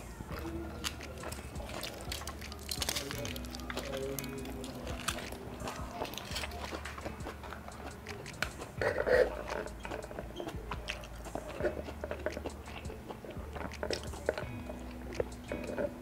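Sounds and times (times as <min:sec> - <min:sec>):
mouth clicks: 0:00.0 - 0:16.0
wet chewing: 0:00.0 - 0:16.0.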